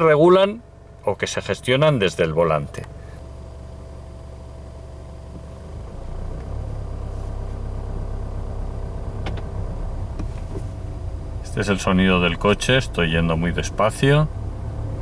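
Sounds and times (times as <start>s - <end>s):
diesel engine drone in cabin: 0.0s - 15.0s.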